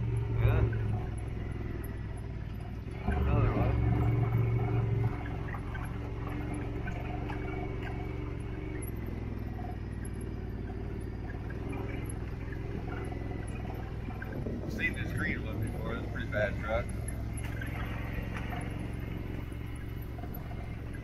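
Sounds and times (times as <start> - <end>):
off-road vehicle engine droning: 0.0 - 21.0.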